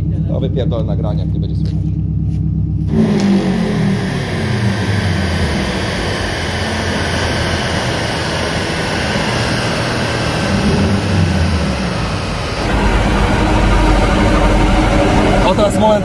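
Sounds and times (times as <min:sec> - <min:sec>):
car engine roaring on dynamometer: 0:00.0 - 0:16.0.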